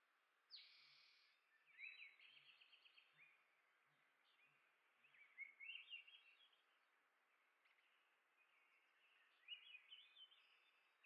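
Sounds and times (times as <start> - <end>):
faint finch chirps: 0.5 - 3.5, 4.2 - 6.7, 7.6 - 11.0.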